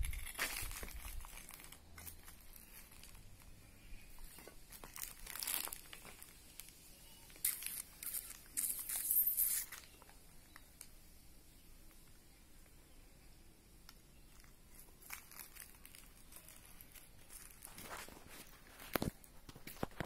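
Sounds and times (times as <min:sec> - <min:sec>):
dry rustling and crinkling: 0:00.0 - 0:11.0, 0:13.8 - 0:20.0.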